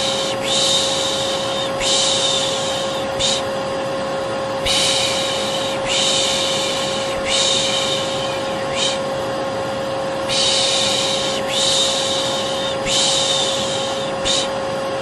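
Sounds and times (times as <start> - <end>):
person shushing: 0.0 - 3.5, 4.6 - 9.0, 10.3 - 14.6
vacuum cleaner motor humming: 0.0 - 15.0.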